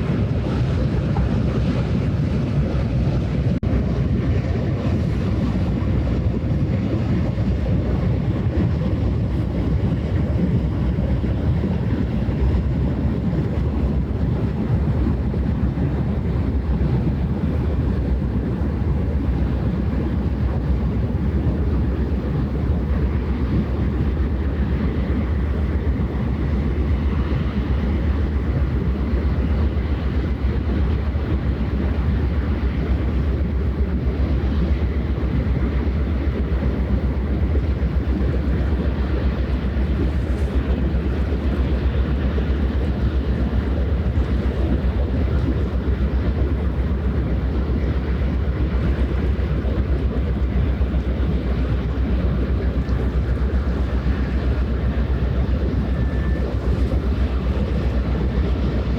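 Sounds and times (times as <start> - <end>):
boat diesel engine drone: 0.0 - 58.9
rough water and air noise: 0.0 - 58.9.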